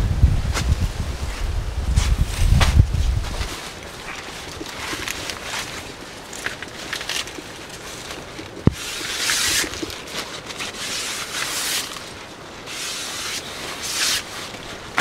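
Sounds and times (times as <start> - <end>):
plant fibres rustling and tearing: 2.0 - 15.0.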